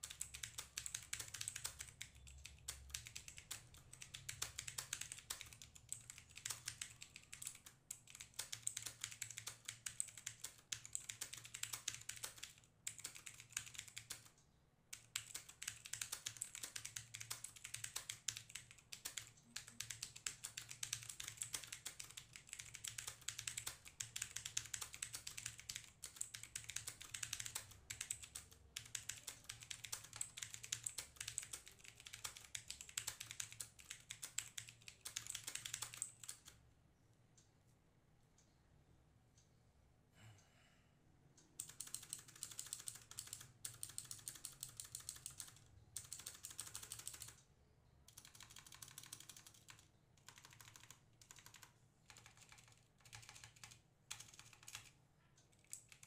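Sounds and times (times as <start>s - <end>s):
mechanical keyboard typing: 0.0s - 36.6s, 41.6s - 47.4s, 48.1s - 56.0s.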